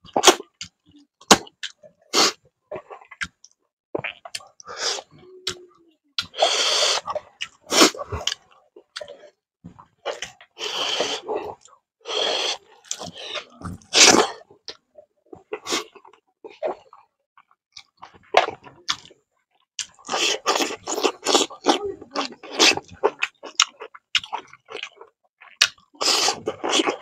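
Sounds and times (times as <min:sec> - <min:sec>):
person chewing and lip-smacking: 0:00.1 - 0:01.8, 0:02.7 - 0:09.3, 0:10.0 - 0:14.8, 0:15.4 - 0:27.0.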